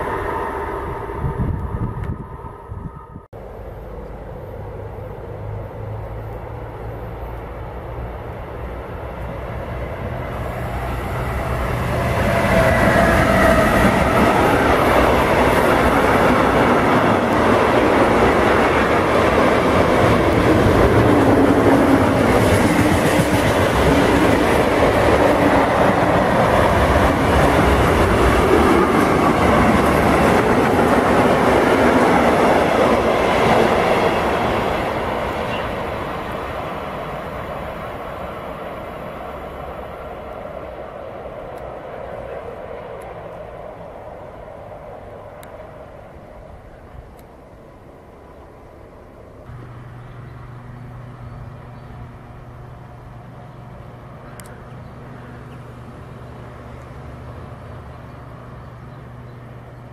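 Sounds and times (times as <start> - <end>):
freight train wheels on rails: 3.3 - 59.9.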